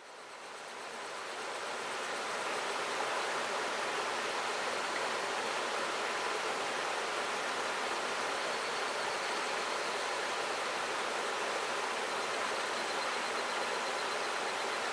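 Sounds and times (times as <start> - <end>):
stream rushing over rocks: 1.0 - 14.9.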